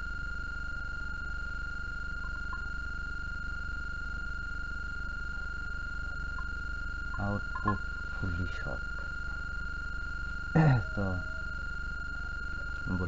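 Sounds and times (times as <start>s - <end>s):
low electrical hum: 0.0s - 13.0s
multimeter continuity beep: 0.0s - 13.0s.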